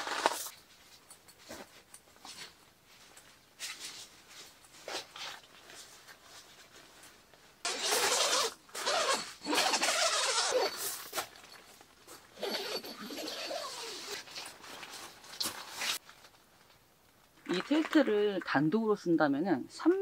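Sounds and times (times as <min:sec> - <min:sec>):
tent fabric rustling: 0:00.0 - 0:16.4.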